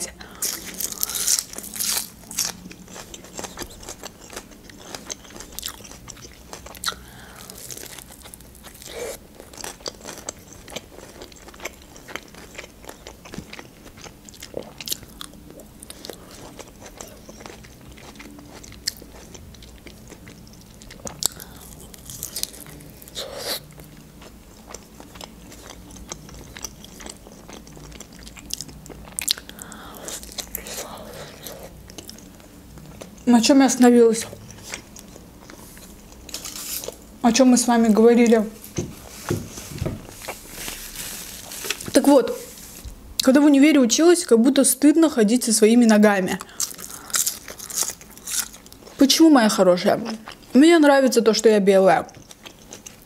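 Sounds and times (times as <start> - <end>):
person chewing crunchy food: 0.2 - 33.3, 34.3 - 37.2, 38.6 - 43.0, 46.4 - 49.0, 52.1 - 53.0.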